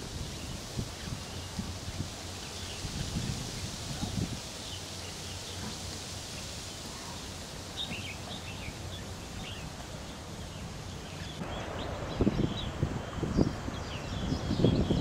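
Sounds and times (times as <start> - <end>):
open-air background hiss: 0.0 - 15.0.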